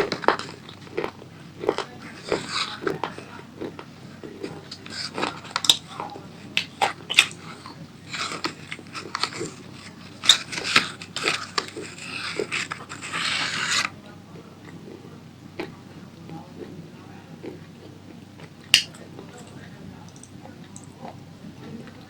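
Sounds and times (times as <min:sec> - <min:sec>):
crunching and chewing food: 0:00.0 - 0:22.0.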